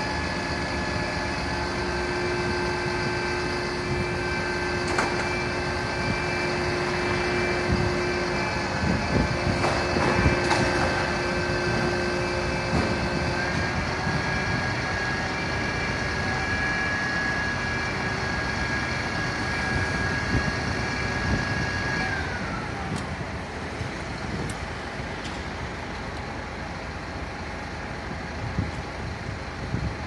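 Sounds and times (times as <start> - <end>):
fire engine siren wailing: 0.0 - 24.9
truck engine: 0.0 - 29.7
traffic noise: 0.0 - 29.8.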